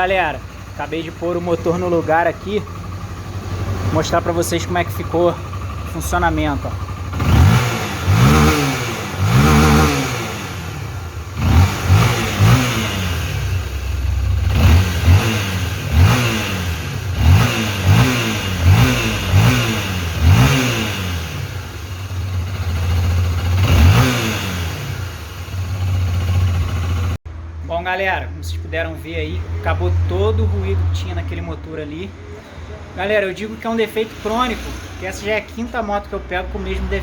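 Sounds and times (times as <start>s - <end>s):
motorcycle engine revving: 0.0s - 27.5s, 33.4s - 37.0s.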